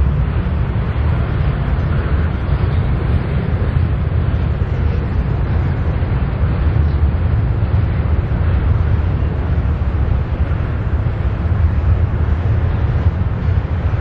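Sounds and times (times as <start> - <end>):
freight cars rolling on rails: 0.0 - 14.0.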